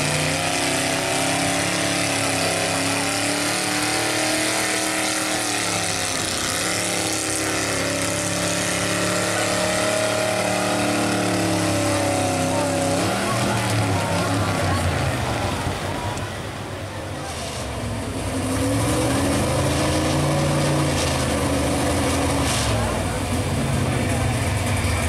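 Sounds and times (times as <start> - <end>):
truck engine running under load: 0.0 - 25.0.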